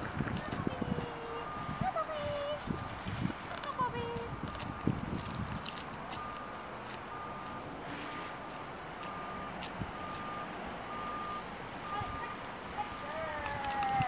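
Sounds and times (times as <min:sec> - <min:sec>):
vehicle reversing alarm beeping: 0:00.4 - 0:13.8.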